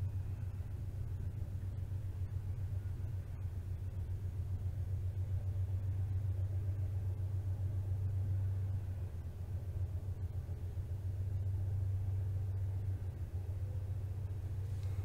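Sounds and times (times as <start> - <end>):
faint hiss: 0.0 - 15.0
steady low hum: 0.0 - 15.0.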